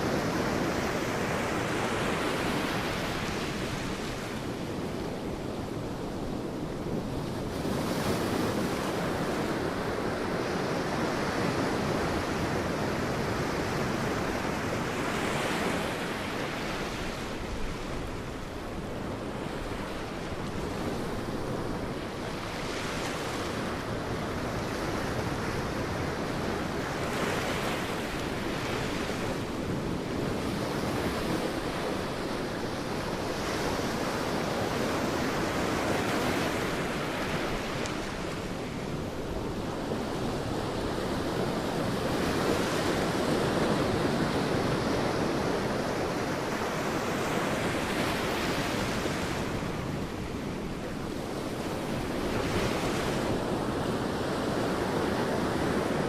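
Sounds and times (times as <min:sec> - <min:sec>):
sea waves breaking on a beach: 0:00.0 - 0:56.0
wind: 0:00.0 - 0:56.0.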